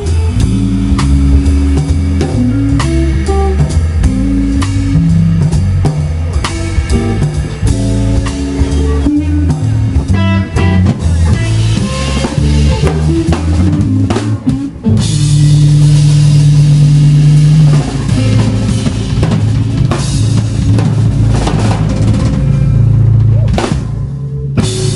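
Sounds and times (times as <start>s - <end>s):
washing cymbals: 0.0s - 23.2s
drum fills: 0.0s - 24.9s
rock band playing loudly: 0.0s - 24.9s.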